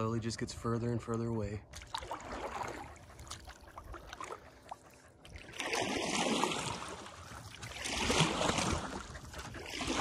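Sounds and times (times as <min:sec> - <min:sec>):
water drips and splashes: 0:01.5 - 0:10.0
paddle stroke through water: 0:01.7 - 0:10.0.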